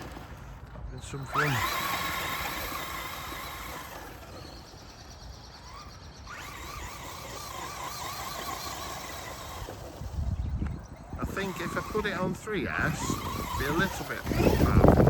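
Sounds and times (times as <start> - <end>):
electric toy car motor whining: 0.0 - 15.0.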